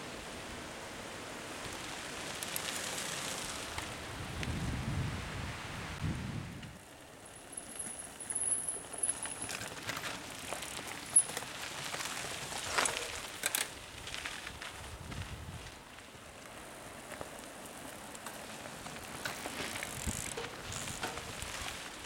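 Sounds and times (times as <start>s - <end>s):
bike tyres crunching on dirt: 0.0s - 22.0s.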